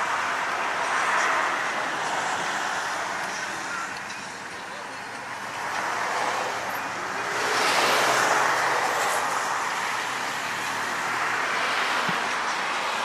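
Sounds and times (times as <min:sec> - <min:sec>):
freeway traffic rushing: 0:00.0 - 0:13.0.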